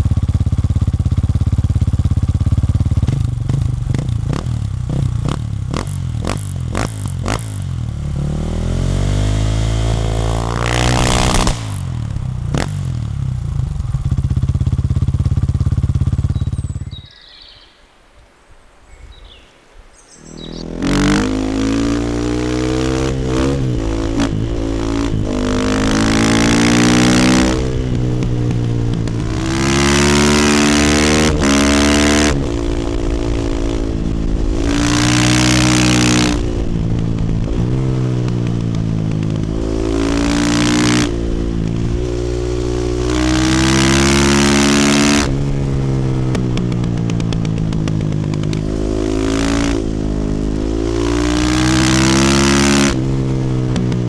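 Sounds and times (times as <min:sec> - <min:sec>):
motorcycle engine revving: 0:00.0 - 0:17.5, 0:20.1 - 0:54.0.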